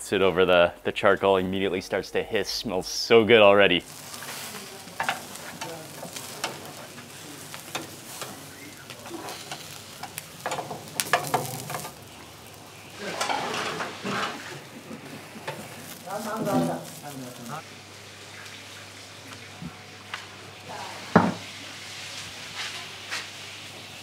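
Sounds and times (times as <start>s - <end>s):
meat sizzling on charcoal grill: 0.0s - 24.0s.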